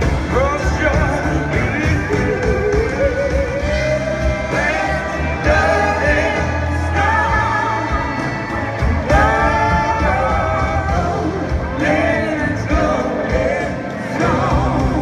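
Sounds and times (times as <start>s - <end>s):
blues-rock band playing: 0.0s - 15.0s.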